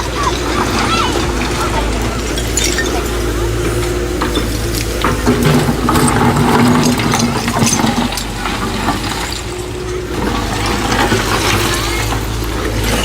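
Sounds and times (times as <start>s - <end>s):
heavy machine engine running: 0.0s - 13.0s
metallic clanks and rattles: 0.1s - 13.0s.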